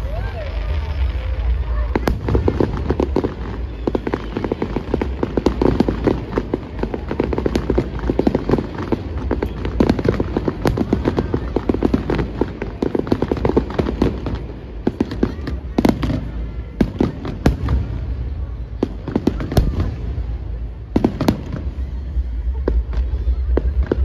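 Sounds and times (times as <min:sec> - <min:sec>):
fireworks crackling and banging: 0:00.0 - 0:24.0
sharp firework crack: 0:00.0 - 0:24.0.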